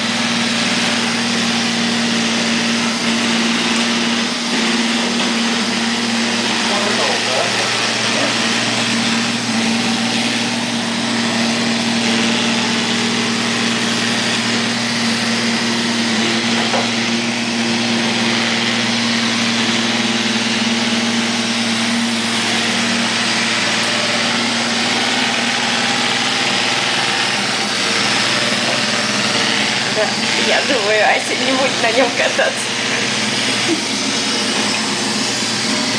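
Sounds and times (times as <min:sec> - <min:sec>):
robot vacuum humming: 0:00.0 - 0:35.9.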